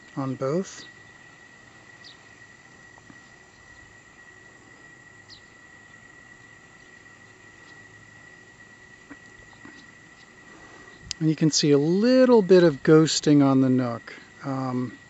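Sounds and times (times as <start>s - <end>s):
high-pitched insect trill: 0.0s - 15.0s.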